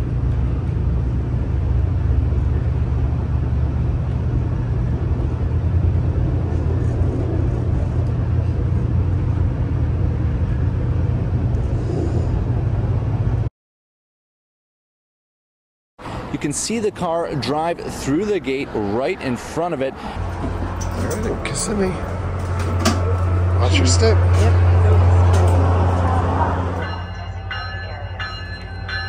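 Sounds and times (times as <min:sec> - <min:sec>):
train rumbling on track: 0:00.0 - 0:13.5, 0:16.0 - 0:29.0.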